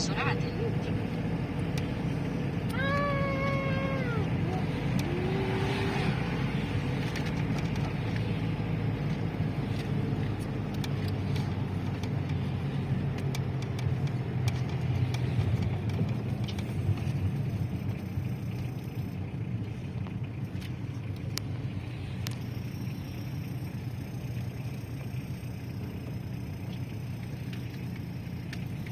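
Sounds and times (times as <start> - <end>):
car engine and tyre rumble: 0.0 - 28.9.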